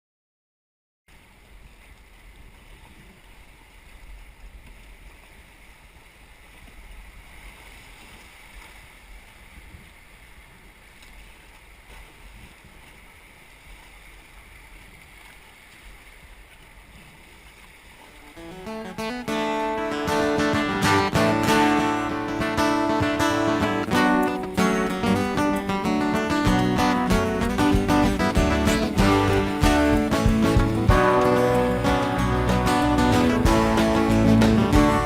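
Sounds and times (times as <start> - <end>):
river water rushing: 1.1 - 35.0.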